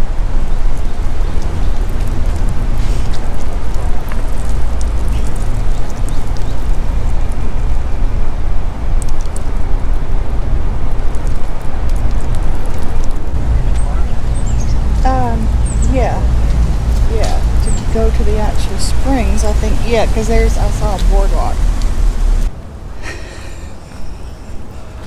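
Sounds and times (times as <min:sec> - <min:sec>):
car wind and road noise: 0:00.0 - 0:25.0
light crackles: 0:00.0 - 0:25.0.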